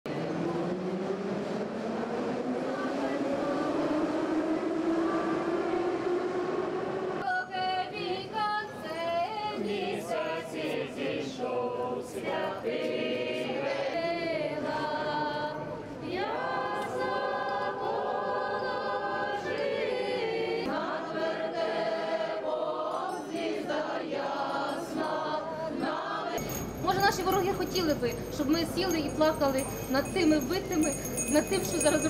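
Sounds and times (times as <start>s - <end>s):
group singing a carol: 0.1s - 27.1s.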